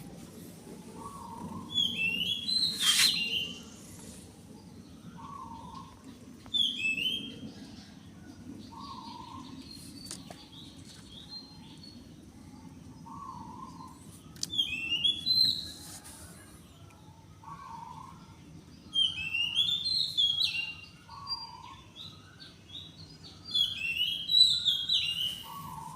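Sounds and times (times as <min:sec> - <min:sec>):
steady low background hum: 0:00.0 - 0:25.9.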